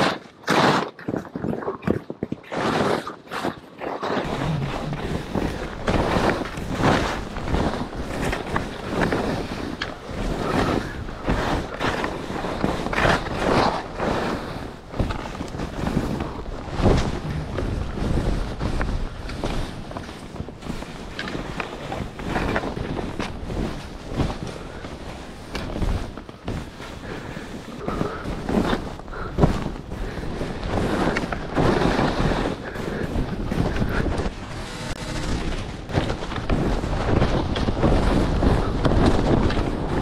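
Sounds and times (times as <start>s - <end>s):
skis swooshing on snow: 0.0s - 1.2s, 2.5s - 40.0s
wind rushing over microphone: 4.2s - 40.0s.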